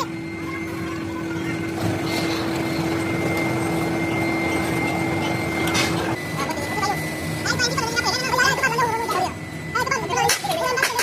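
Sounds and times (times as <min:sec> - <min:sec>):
workshop machine humming: 0:00.0 - 0:11.0.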